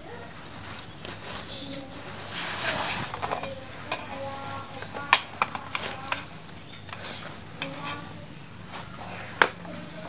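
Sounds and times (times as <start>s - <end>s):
light rustling: 0.0s - 10.0s.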